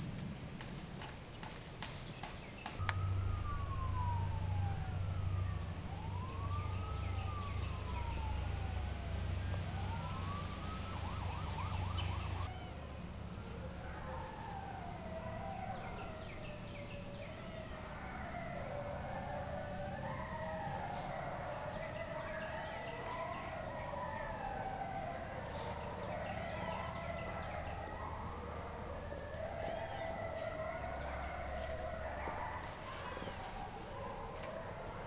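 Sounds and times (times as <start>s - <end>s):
steady low hum: 2.6s - 35.0s
siren wailing: 2.8s - 35.0s.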